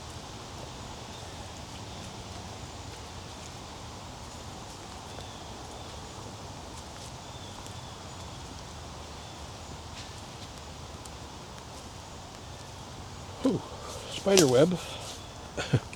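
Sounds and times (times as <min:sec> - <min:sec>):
footsteps on woodland trail: 0:00.0 - 0:15.9
leaves rustling: 0:00.1 - 0:15.9.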